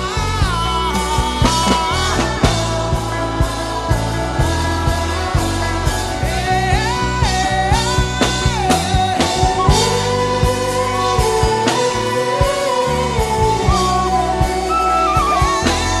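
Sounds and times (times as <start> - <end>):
bass line: 0.0 - 16.0
hummed melody: 0.0 - 16.0
steady drum beat: 0.0 - 16.0.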